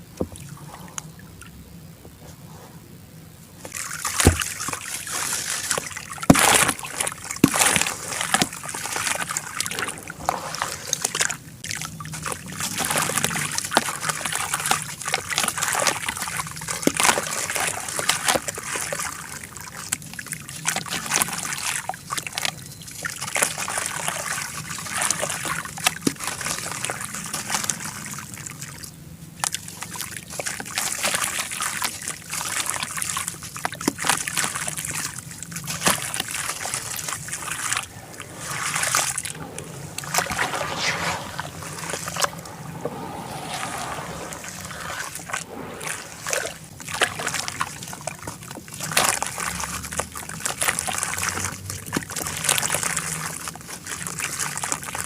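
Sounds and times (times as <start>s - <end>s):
water sloshing and dribbling: 3.6s - 55.0s.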